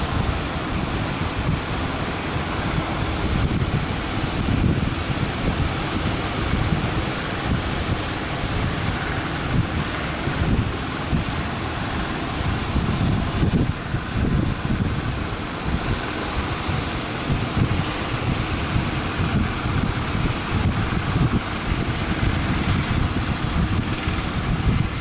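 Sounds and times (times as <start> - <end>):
surf rushing: 0.0 - 25.0
wind buffeting microphone: 0.0 - 25.0.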